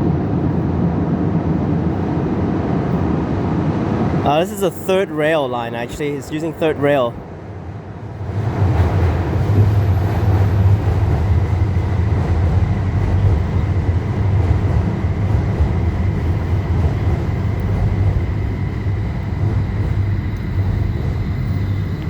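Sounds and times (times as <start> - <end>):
train rumbling into station: 0.0 - 22.0.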